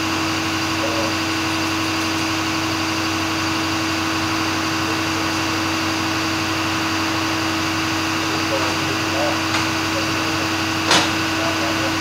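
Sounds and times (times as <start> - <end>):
machinery humming with steady tone: 0.0 - 12.0.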